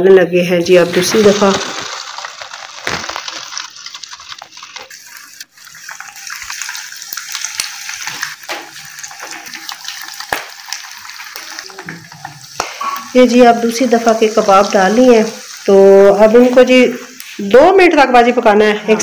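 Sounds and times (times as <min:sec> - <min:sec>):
kebabs sizzling in hot oil: 0:00.4 - 0:19.0.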